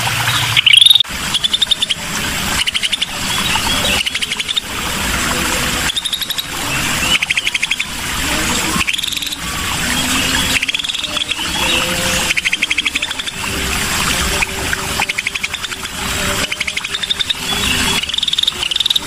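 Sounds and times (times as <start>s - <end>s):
bulbul chattering trills: 0.3s - 19.0s.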